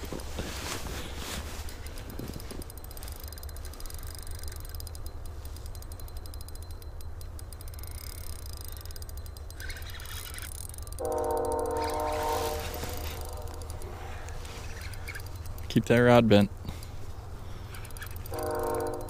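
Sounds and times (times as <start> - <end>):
fishing reel drag ticking: 1.4 - 19.0
steady pitched tone: 1.6 - 16.9, 17.8 - 19.0.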